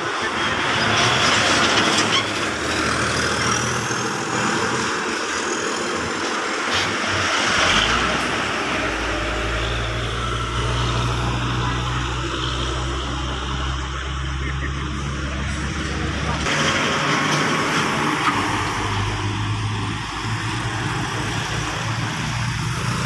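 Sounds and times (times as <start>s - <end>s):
truck engine rumble: 0.0s - 23.0s
tyre and road noise: 0.0s - 23.0s.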